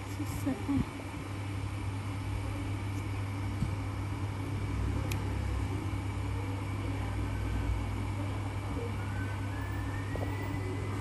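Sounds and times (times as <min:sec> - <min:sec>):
equipment hum with faint hiss: 0:00.0 - 0:11.0.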